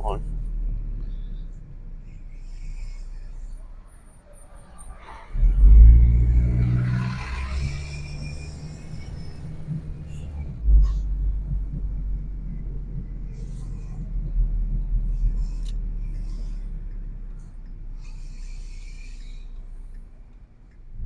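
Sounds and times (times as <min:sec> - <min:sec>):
bus diesel engine: 0:00.0 - 0:21.0
car interior driving rumble: 0:00.0 - 0:21.0.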